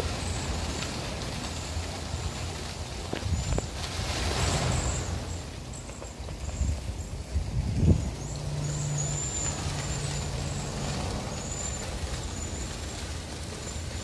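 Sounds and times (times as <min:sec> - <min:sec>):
low engine-like rumble: 0:00.0 - 0:14.0.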